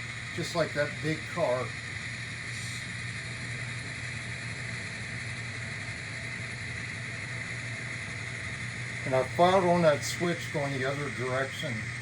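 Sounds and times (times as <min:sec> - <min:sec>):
model train motor hum: 0:00.0 - 0:12.0.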